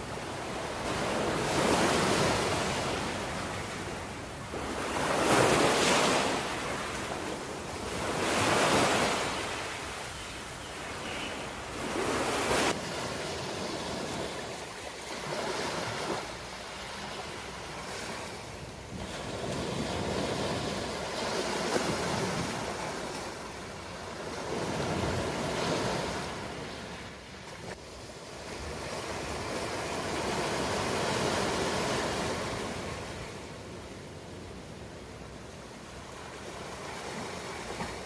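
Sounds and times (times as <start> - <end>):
ocean waves breaking: 0.0 - 33.6.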